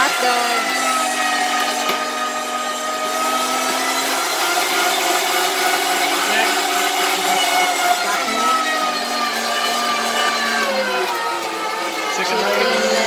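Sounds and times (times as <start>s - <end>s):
meat grinder motor whine: 0.0s - 13.0s.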